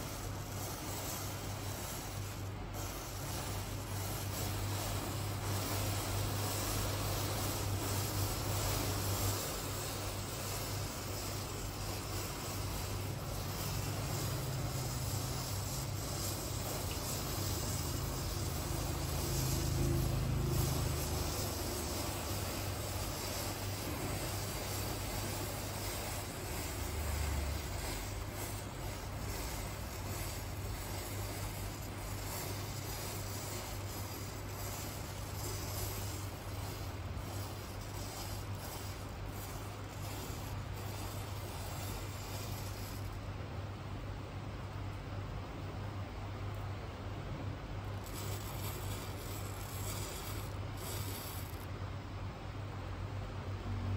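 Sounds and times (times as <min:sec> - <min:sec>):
matchsticks burning with hissing flame: 0:00.0 - 0:43.4, 0:47.8 - 0:51.8
low steady hum: 0:00.0 - 0:53.9.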